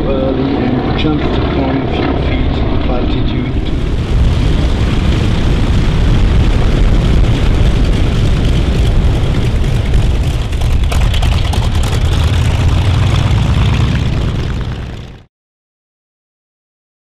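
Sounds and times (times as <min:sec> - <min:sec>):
propeller plane engine rumbling: 0:00.0 - 0:15.3.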